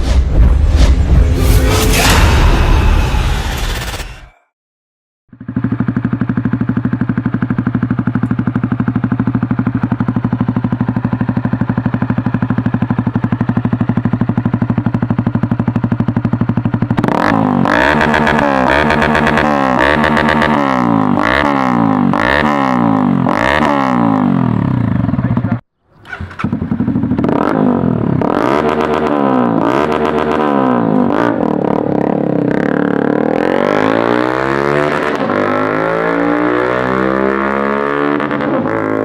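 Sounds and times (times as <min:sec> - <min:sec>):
motorcycle engine revving: 0:05.3 - 0:39.0.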